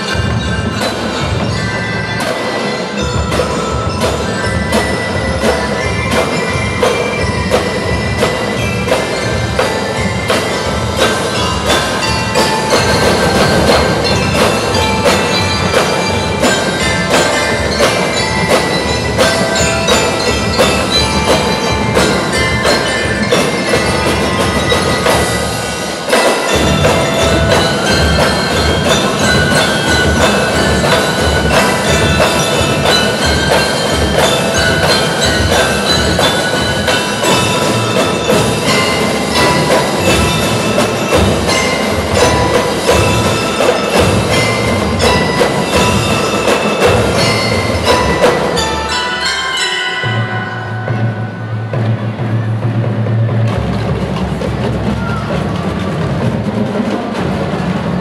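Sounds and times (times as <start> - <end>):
snare and bass drums: 0.0 - 48.6
bell lyres playing melody: 0.0 - 52.9.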